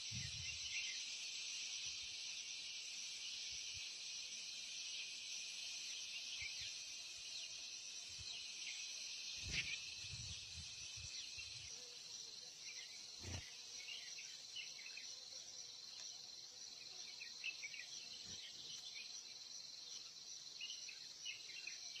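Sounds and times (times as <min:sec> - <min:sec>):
high insect chorus: 0:00.0 - 0:22.0.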